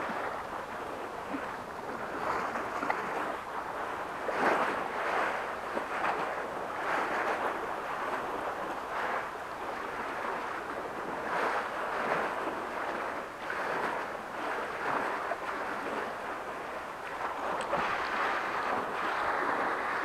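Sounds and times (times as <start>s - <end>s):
small waves washing against rocks: 0.0s - 20.0s.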